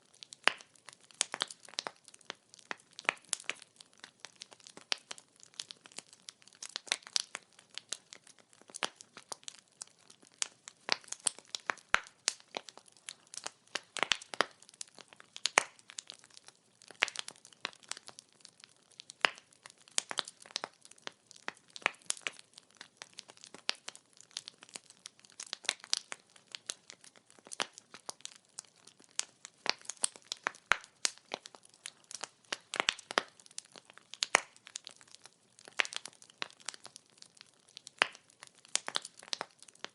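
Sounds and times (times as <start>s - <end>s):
firewood crackling: 0.0s - 39.9s.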